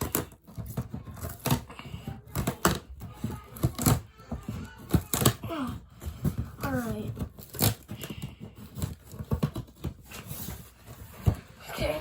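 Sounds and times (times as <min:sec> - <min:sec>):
scissors cutting tape and cardboard: 0:00.0 - 0:05.7, 0:06.3 - 0:10.4.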